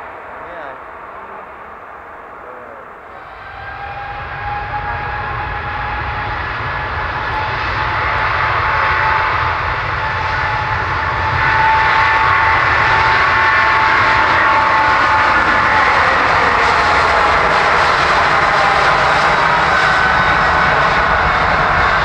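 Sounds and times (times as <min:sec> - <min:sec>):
airliner engines whining: 0:00.0 - 0:22.0.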